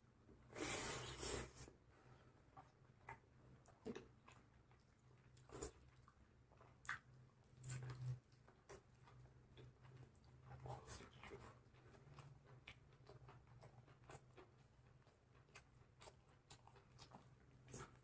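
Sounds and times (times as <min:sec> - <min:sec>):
chewing and biting chicken: 0:02.6 - 0:18.0.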